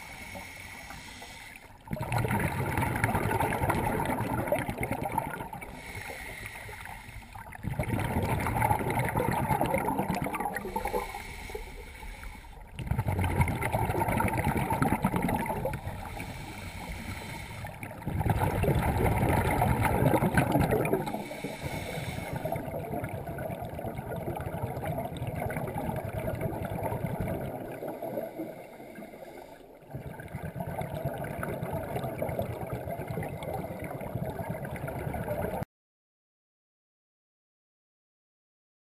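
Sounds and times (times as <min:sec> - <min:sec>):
underwater bubbles from regulator: 0:01.7 - 0:35.6.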